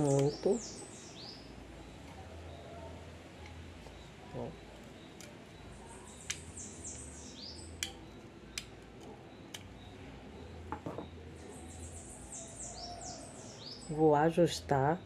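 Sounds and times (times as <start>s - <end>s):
small bird twittering: 0.0s - 15.0s.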